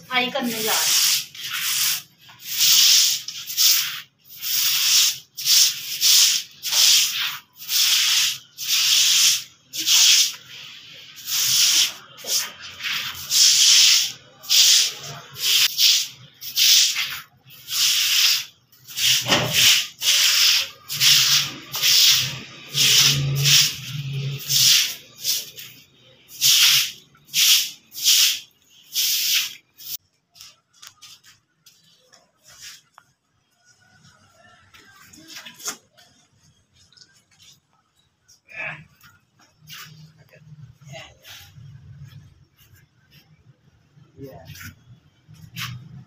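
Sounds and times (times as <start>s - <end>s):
broom sweeping wet concrete: 0.1s - 33.1s, 33.8s - 37.7s, 39.6s - 43.4s, 44.3s - 46.0s.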